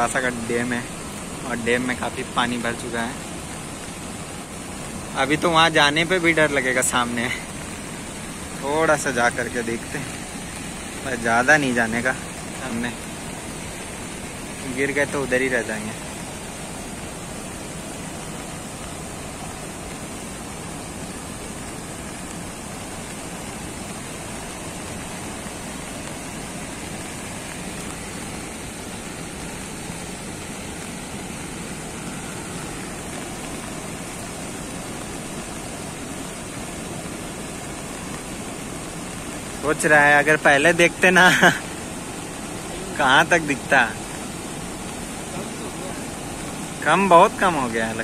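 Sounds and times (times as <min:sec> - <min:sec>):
water rushing over weir: 0:00.0 - 0:48.0.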